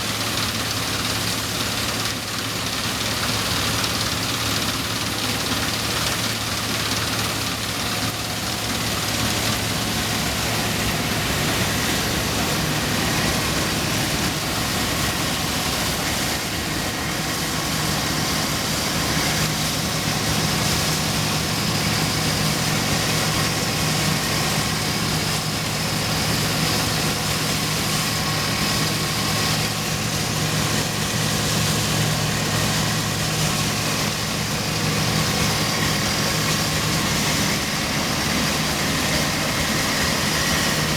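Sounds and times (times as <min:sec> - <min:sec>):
combine harvester diesel engine: 0:00.0 - 0:40.9.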